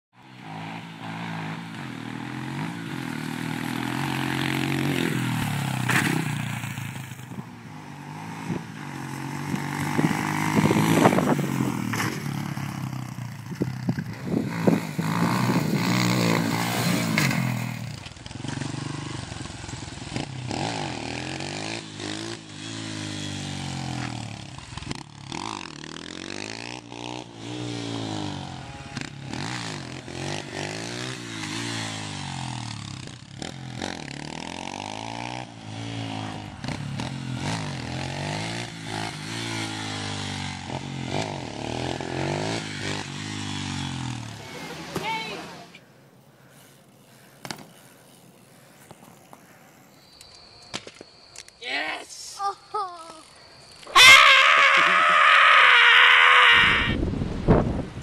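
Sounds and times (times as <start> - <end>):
dirt bike engine revving: 0.2 - 45.8, 53.9 - 58.0.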